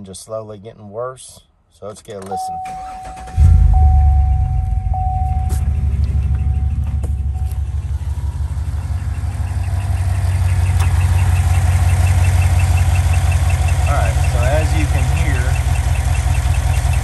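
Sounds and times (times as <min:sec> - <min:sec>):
car engine idling: 0:02.4 - 0:17.0.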